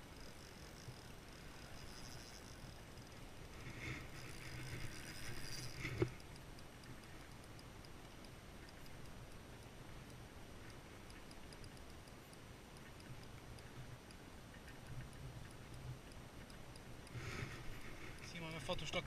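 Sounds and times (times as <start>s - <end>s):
faint regular ticking: 0.0s - 19.0s
fishing reel whirring: 0.0s - 19.0s
reel sharp click: 0.1s - 19.0s.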